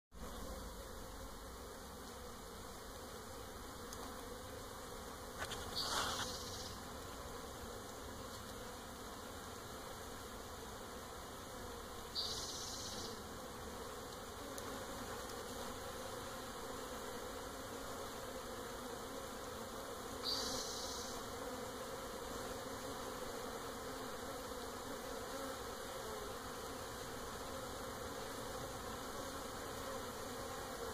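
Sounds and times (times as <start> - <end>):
honeybees buzzing: 0.2 - 30.9.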